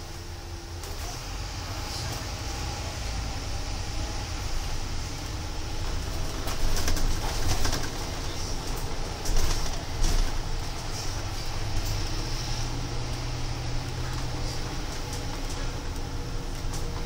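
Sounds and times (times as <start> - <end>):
bus engine and road rumble: 0.0 - 17.0
bus hissing surges: 0.0 - 17.0.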